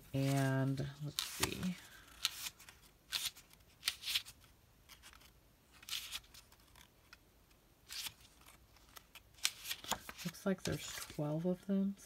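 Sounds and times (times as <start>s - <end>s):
paper sheets rustling: 0.0s - 7.2s, 7.9s - 11.4s.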